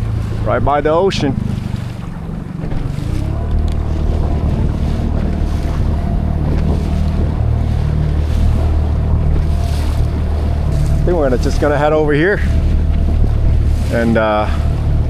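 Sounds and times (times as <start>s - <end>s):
outboard motor droning: 0.0s - 15.0s
water noise: 0.0s - 15.0s
wind noise: 0.0s - 15.0s.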